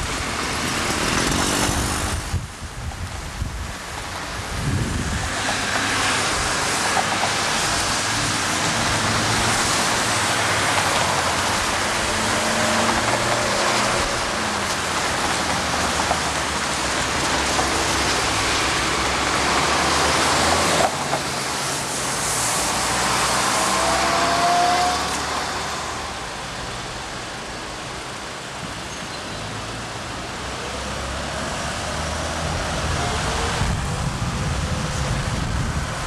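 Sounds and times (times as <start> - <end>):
cars passing on wet road: 0.0 - 36.0.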